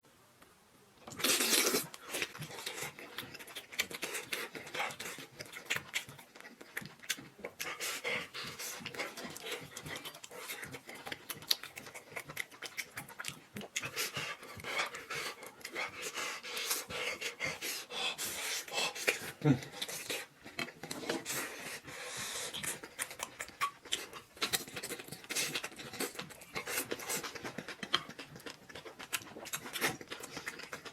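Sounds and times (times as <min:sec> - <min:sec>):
wet chewing sounds: 0:01.0 - 0:30.9.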